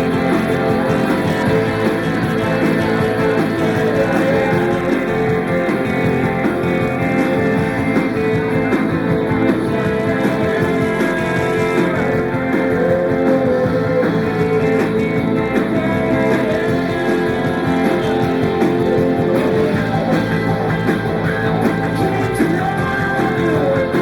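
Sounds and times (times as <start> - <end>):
lead guitar: 0.0 - 24.0
live rock band playing: 0.0 - 24.0.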